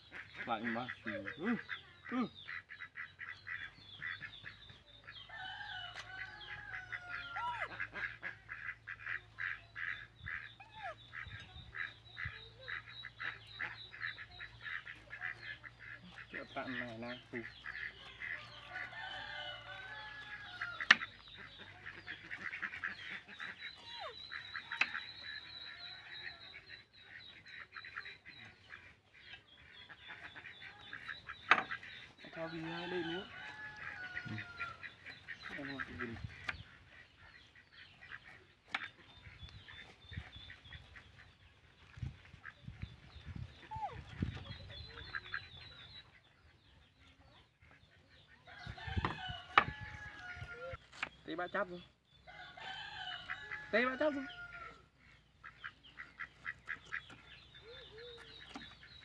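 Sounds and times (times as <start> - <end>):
birds calling: 0.0 - 59.0
poultry honking and clucking: 0.0 - 59.0.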